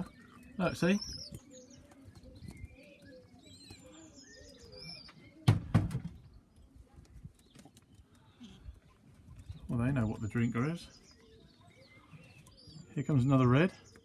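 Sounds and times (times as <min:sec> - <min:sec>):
pigeons calling: 0:00.0 - 0:14.0.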